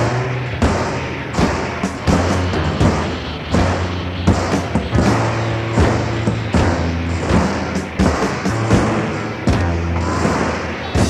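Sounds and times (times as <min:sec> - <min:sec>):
droning low bass tone: 0:00.0 - 0:10.8
heavy percussive hits: 0:00.0 - 0:11.0.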